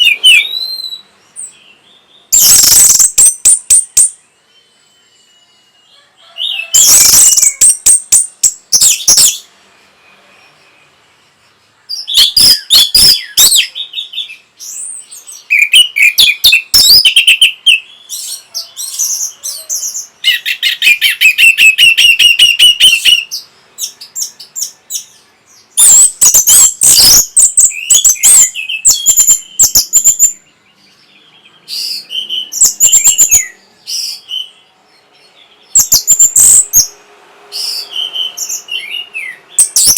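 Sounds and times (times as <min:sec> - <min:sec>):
thrush singing whistles and trills: 0:00.0 - 0:39.9.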